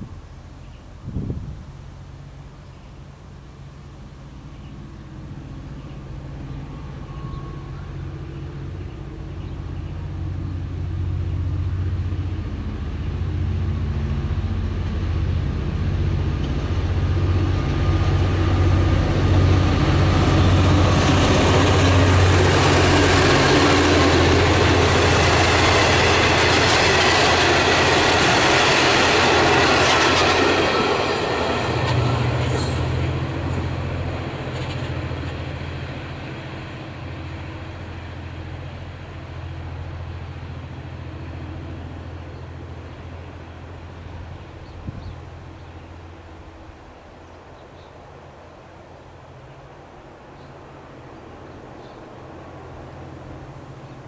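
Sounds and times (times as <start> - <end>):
diesel engine rumble: 0.0 - 54.0
train wheels rolling on rails: 4.5 - 48.0.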